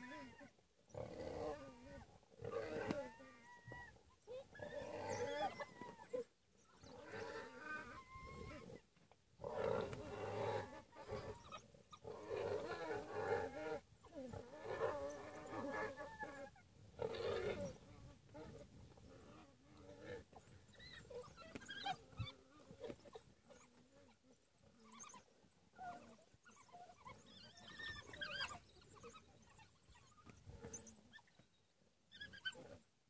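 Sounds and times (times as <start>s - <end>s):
wild dogs calling: 0.0s - 8.8s, 9.4s - 32.9s.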